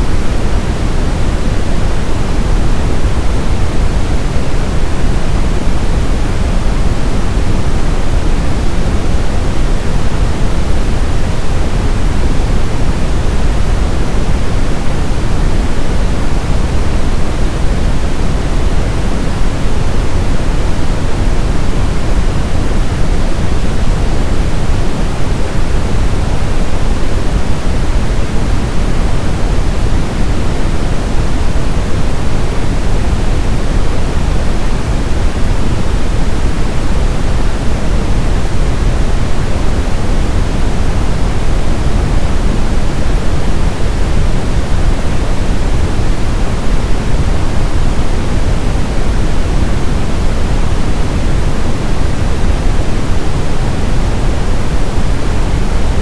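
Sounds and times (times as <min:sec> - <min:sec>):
brown noise rumbling hiss: 0:00.0 - 0:56.0.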